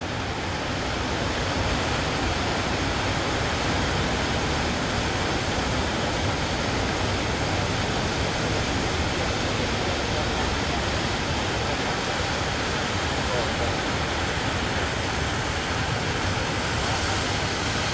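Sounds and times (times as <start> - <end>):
heavy sea surf breaking: 0.0 - 17.9.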